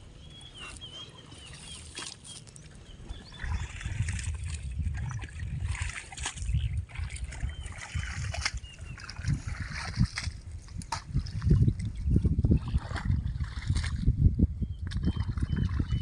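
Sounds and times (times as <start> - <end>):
water and mud sloshing: 0.0 - 16.0.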